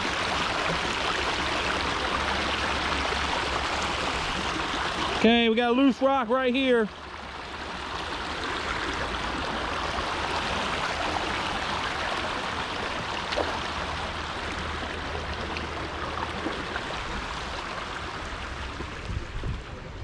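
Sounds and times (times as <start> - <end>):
creek water running over rocks: 0.0 - 20.0.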